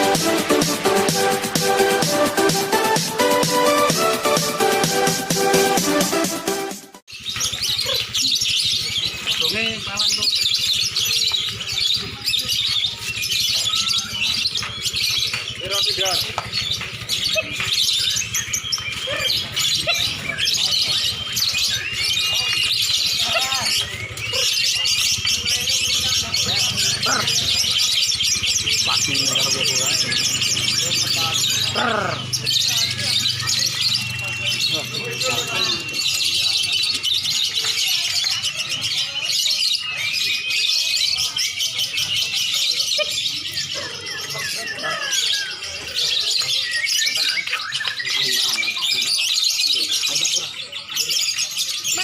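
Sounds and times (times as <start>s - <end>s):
caged birds chattering and singing: 0.0s - 52.0s
songbirds chirping and trilling: 0.0s - 52.0s.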